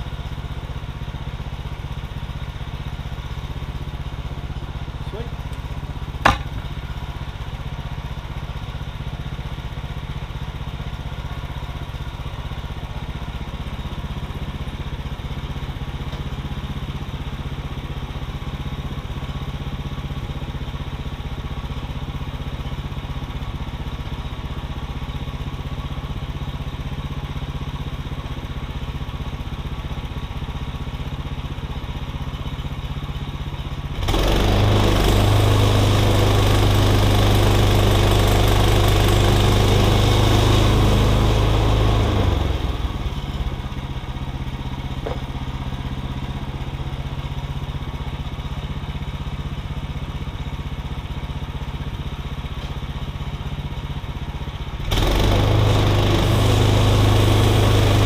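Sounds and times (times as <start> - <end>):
gas engine idling and revving: 0.0 - 58.0.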